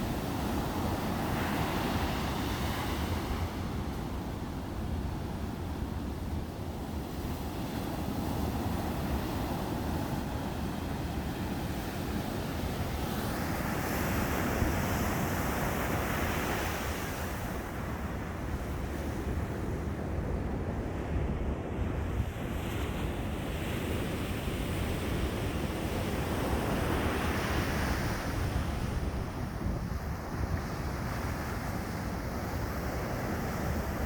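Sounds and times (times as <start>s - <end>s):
surf breaking on a beach: 0.0s - 34.0s
wind rumble on microphone: 0.0s - 34.0s.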